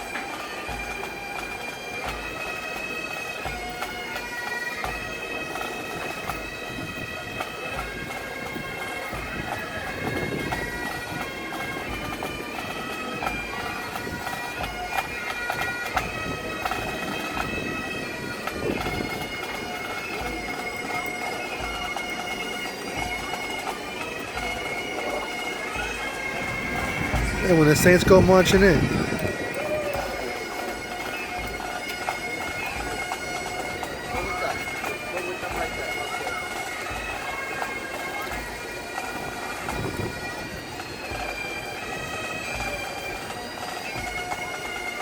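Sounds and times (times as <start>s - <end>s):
bagpipes playing: 0.0s - 45.0s.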